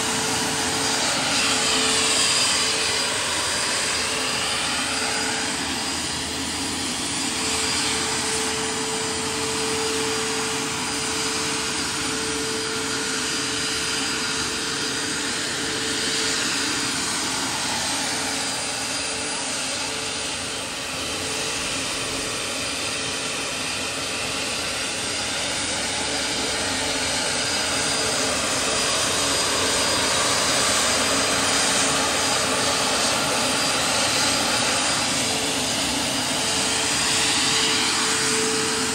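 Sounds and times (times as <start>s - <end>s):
model helicopter turbine whine: 0.0s - 38.9s.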